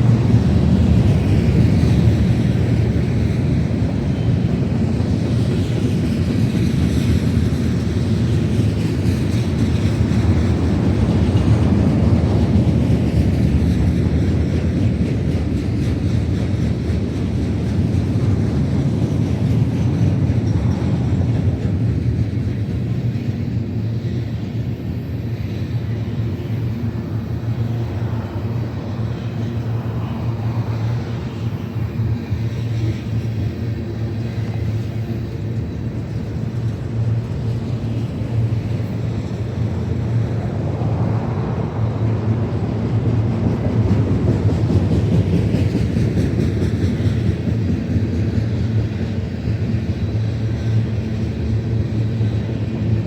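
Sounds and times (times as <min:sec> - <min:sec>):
freight train rumbling past: 0:00.0 - 0:53.0.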